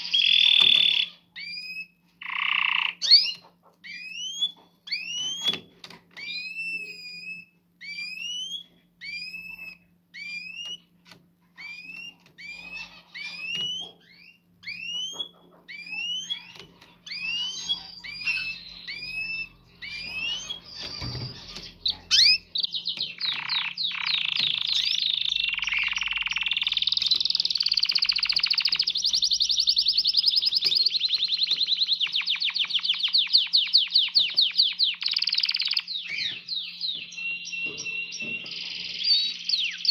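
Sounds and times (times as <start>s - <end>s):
canary rising chirps: 0.0s - 5.6s, 6.2s - 39.9s
canary trilling song: 0.0s - 39.9s.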